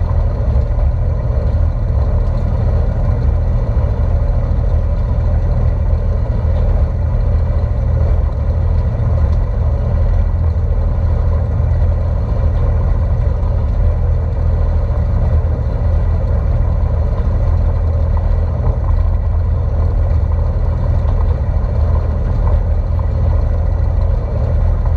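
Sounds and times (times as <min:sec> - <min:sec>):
tractor diesel engine rumbling: 0:00.0 - 0:24.9.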